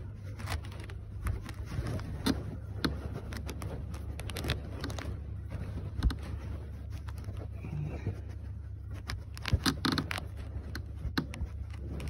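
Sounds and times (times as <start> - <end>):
clothing brushing microphone: 0.0 - 12.0
steady low hum: 0.0 - 12.0.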